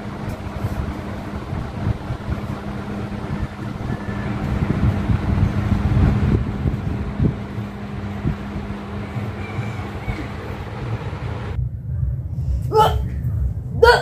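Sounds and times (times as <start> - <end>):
steady low hum: 0.0 - 14.0
wind buffeting microphone: 0.0 - 14.0.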